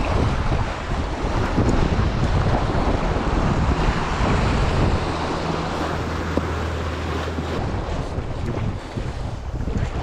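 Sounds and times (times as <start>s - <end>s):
surf washing against rocks: 0.0s - 10.0s
wind buffeting microphone: 0.0s - 10.0s.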